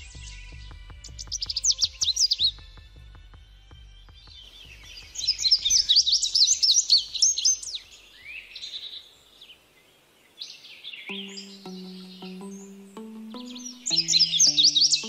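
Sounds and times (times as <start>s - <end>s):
songbird chirping and singing: 0.0s - 2.8s, 3.7s - 15.0s.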